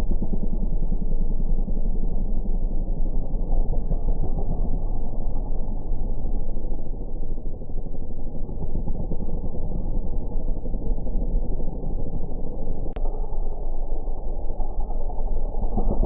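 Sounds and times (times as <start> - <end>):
low muffled engine rumble: 0.0 - 16.0.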